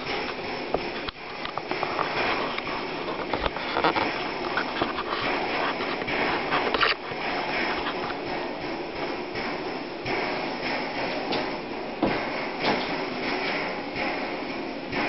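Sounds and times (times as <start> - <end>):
flame crackling and popping: 0.0 - 15.0
petrol stove burner hissing: 0.0 - 15.0.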